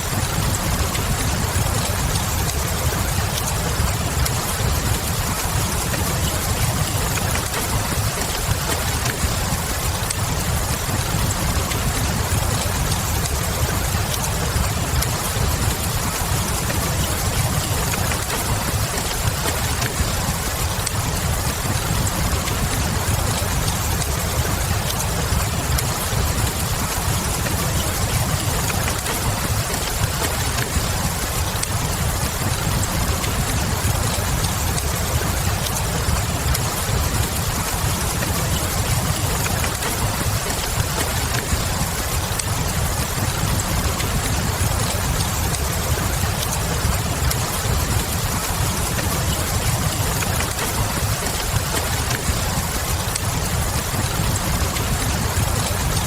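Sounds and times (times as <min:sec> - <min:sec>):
log fire crackling: 0:00.0 - 0:56.0
steady rain: 0:00.0 - 0:56.0.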